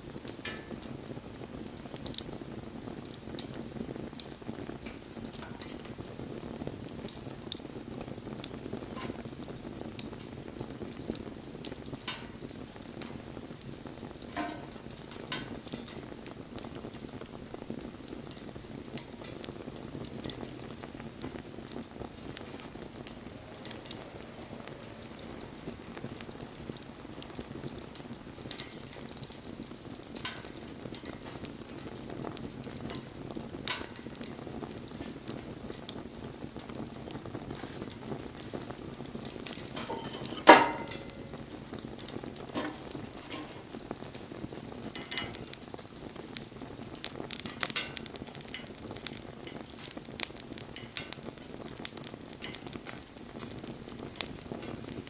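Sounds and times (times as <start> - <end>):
loud crack of burning wood: 0.0 - 55.0
wood fire crackling: 0.0 - 55.0.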